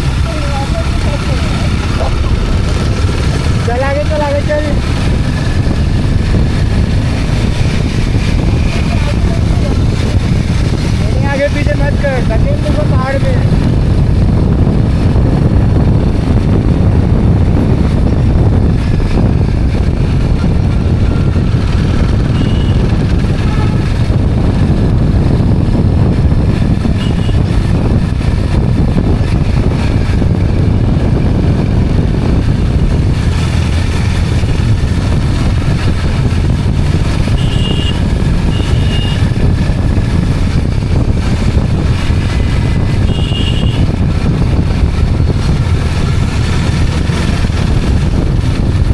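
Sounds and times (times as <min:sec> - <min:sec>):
motorbike engine rumble: 0:00.0 - 0:48.9
road and wind noise: 0:00.0 - 0:48.9.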